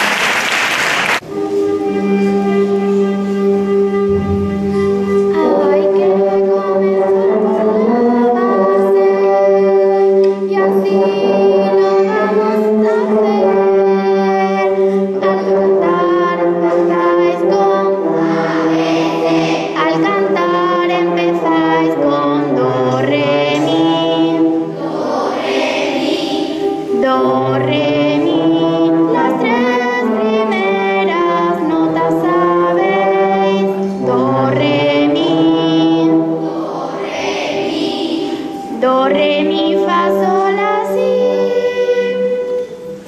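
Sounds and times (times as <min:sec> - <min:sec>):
choir singing: 0:04.1 - 0:42.8.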